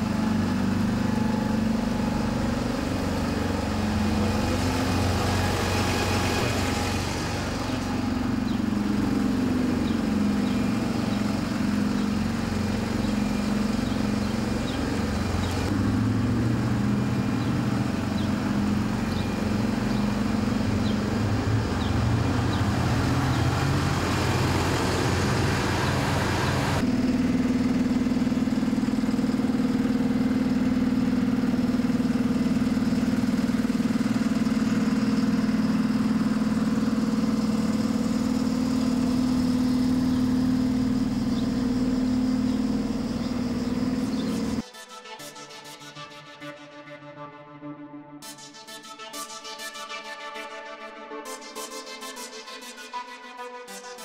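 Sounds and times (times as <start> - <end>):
truck engine running: 0.0 - 44.6.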